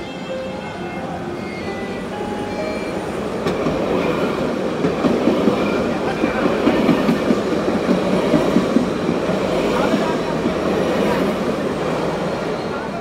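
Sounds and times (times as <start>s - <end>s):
tram wheels rumbling on rails: 0.2s - 13.0s.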